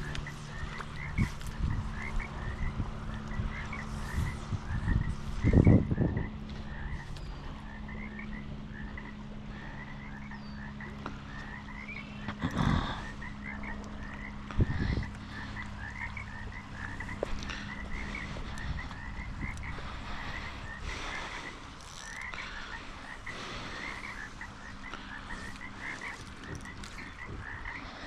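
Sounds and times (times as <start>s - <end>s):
frogs chirping: 0.0s - 28.0s
low steady hum: 0.0s - 28.0s.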